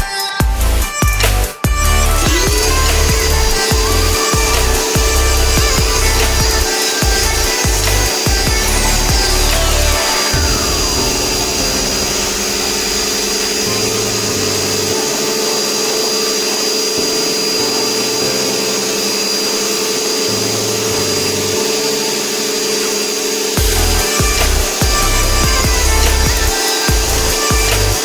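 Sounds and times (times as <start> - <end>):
machine motor running with whine: 2.1 - 28.0.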